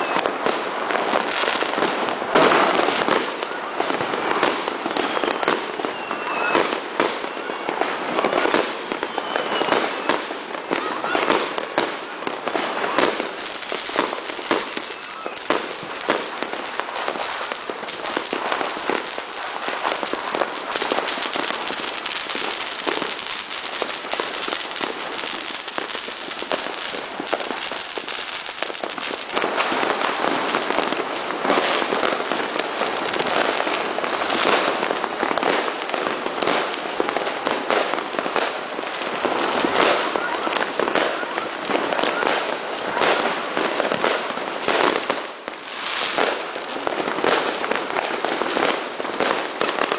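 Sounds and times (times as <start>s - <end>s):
fireworks and firecrackers banging: 0.0s - 49.9s.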